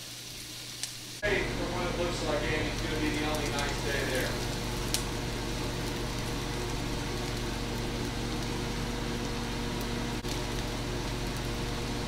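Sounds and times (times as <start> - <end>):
onions sizzling in oil: 0.0 - 12.0
low hum: 1.2 - 12.0.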